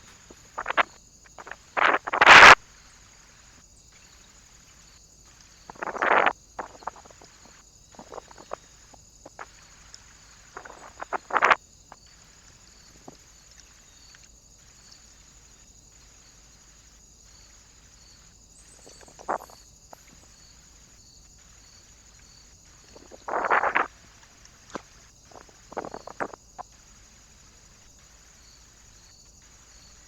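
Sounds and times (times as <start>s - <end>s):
microphone hiss: 0.0s - 30.0s.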